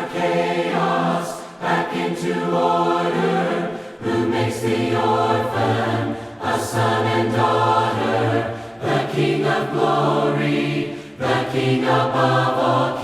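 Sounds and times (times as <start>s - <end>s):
choir singing in harmony: 0.0s - 13.0s.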